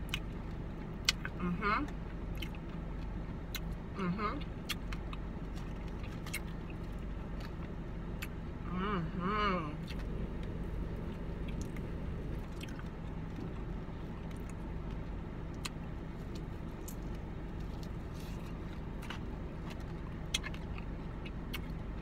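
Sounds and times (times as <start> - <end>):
chewing crispy fried chicken: 0.0 - 3.8, 4.5 - 8.4, 9.8 - 22.0
low car cabin hum: 0.0 - 22.0.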